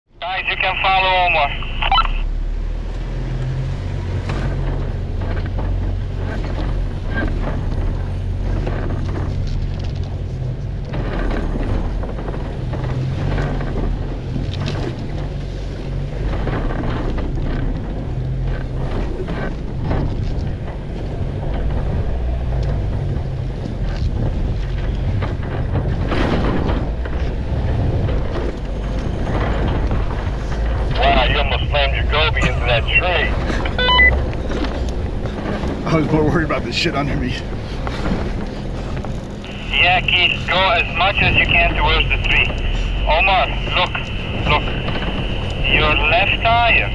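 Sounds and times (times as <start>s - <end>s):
engine running at low revs: 0.4s - 46.9s.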